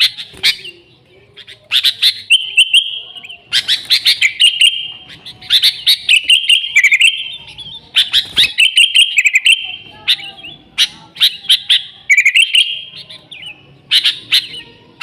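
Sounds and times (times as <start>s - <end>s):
bulbul singing: 0.0s - 15.0s.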